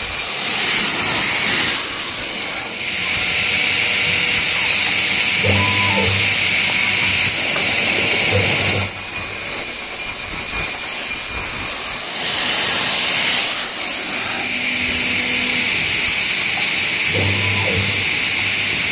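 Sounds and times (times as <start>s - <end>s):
circular saw cutting metal: 0.0s - 18.9s.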